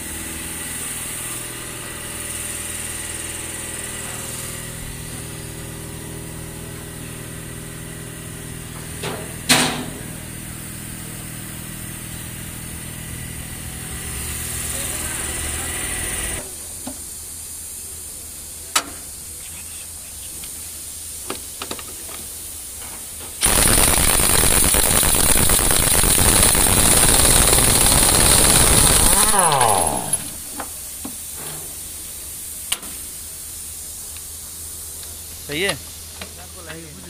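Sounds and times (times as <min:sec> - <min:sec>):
air exhaust hiss: 0:00.0 - 0:37.0.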